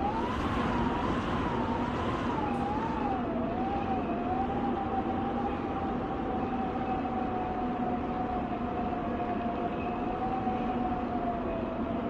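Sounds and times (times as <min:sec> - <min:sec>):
rushing rumble of air and train: 0:00.0 - 0:12.0
wind whistling through doorway: 0:00.0 - 0:12.0.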